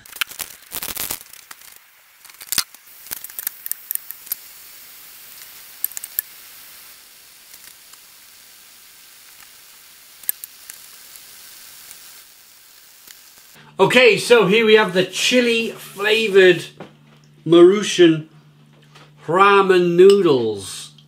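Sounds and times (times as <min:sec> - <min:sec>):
gas hob hiss: 0:00.0 - 0:17.0.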